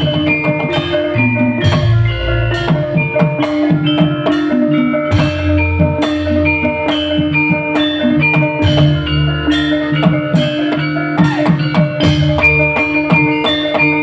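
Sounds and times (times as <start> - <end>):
drums keeping steady beat: 0.0 - 14.0
instrumental band music: 0.0 - 14.0
plucked melody notes: 0.0 - 14.0.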